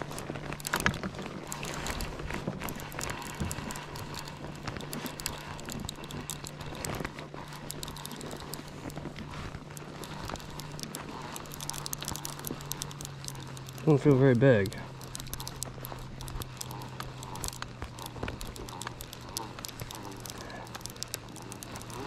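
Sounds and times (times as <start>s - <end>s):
fishing reel clicking: 0.0s - 22.0s
low steady hum: 0.0s - 22.0s.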